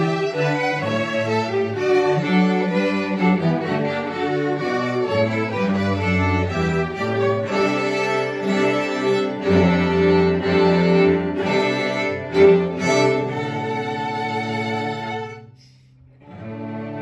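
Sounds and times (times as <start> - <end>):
string ensemble playing chords: 0.0 - 17.0.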